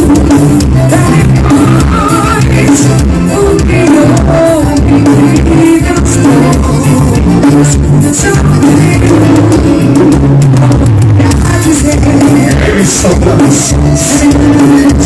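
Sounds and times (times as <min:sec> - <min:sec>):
song with singing and bass beat: 0:00.0 - 0:15.0.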